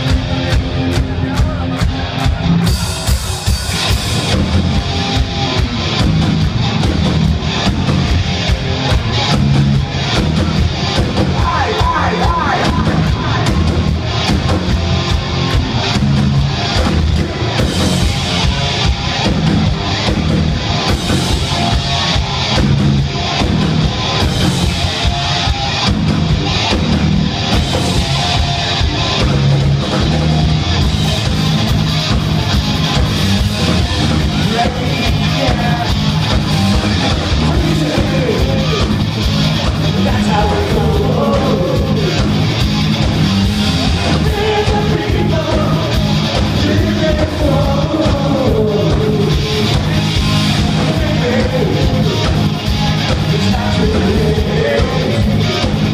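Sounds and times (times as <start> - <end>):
electric guitars: 0.0 - 55.9
steady drum beat: 0.0 - 55.9.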